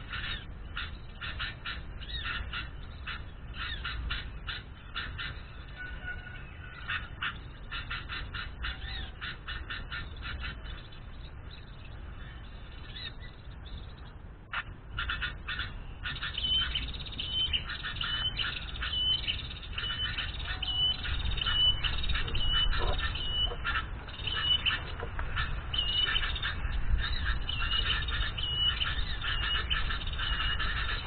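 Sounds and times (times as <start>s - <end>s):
bird chattering: 0.0s - 31.0s
small birds calling: 0.0s - 31.0s.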